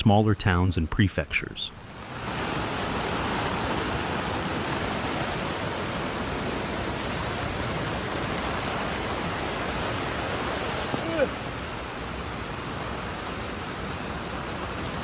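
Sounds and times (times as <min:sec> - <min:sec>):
running water: 0:00.0 - 0:15.0
heavy rain: 0:01.4 - 0:15.0.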